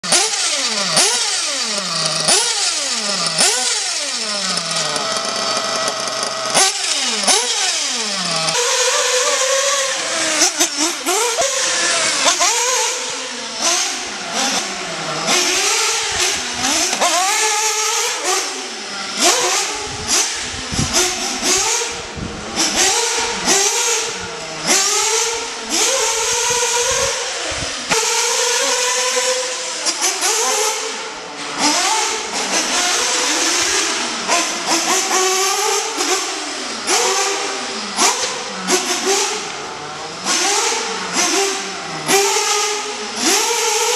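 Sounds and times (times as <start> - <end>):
model buggy engine revving: 0.0 - 43.9.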